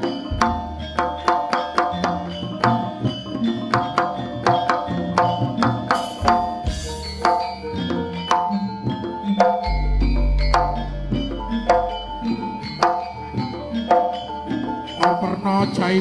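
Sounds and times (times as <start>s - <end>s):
hand drums: 0.0s - 16.0s
ringing struck metal percussion: 0.0s - 16.0s.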